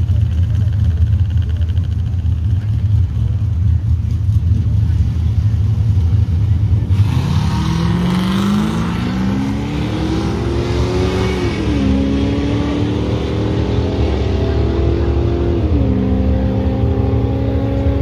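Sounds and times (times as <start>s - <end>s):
drag racing engine at full throttle: 0.0s - 18.0s.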